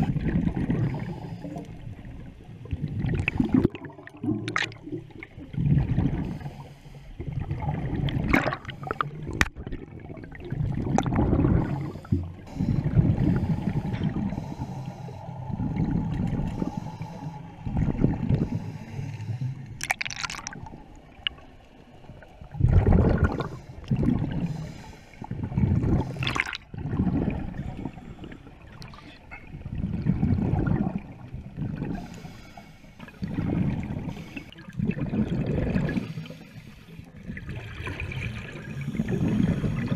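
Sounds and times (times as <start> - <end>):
bubbles gurgling underwater: 0.0 - 6.5, 7.2 - 14.5, 15.4 - 16.8, 17.6 - 18.6, 19.8 - 24.5, 25.3 - 32.1, 33.1 - 36.3, 37.2 - 39.9.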